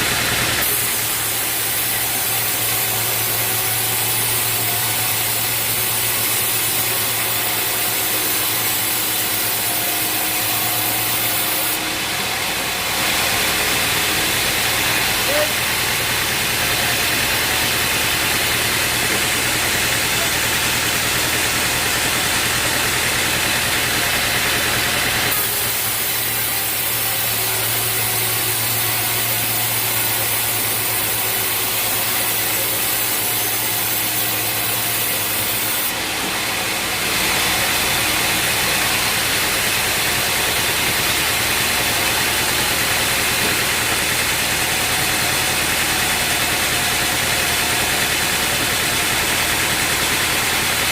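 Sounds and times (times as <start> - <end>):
sawmill engine and sawing: 0.0 - 50.9.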